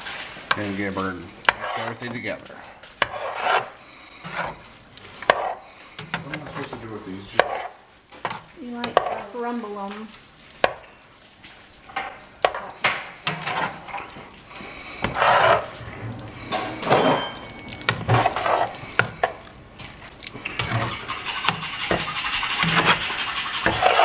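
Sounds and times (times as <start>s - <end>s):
wooden spoon stirring thick sauce: 0.0s - 24.0s.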